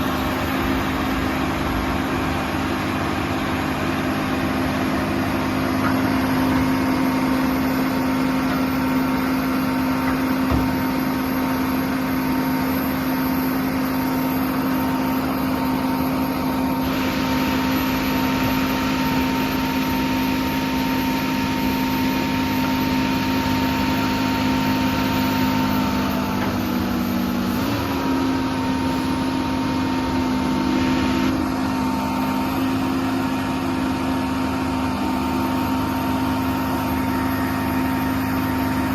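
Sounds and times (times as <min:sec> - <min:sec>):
hydraulic pumps running: 0:00.0 - 0:38.9.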